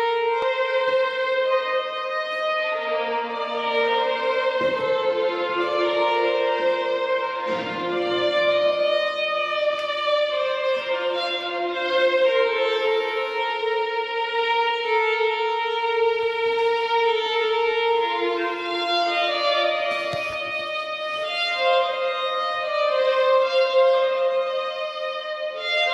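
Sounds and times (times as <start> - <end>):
solo fiddle with echo: 0.0 - 25.9.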